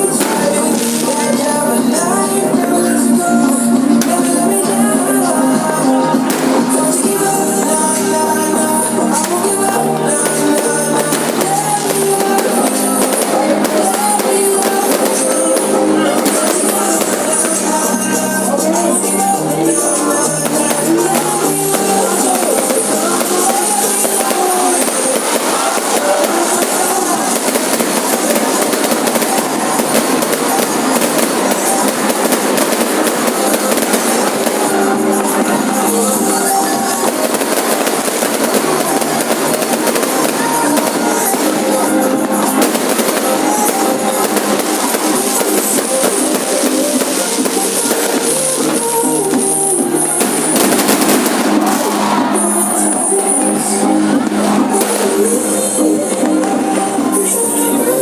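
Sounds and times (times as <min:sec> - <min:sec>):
drums: 0:00.0 - 0:58.0
guitar: 0:00.0 - 0:58.0
person singing: 0:00.0 - 0:58.0.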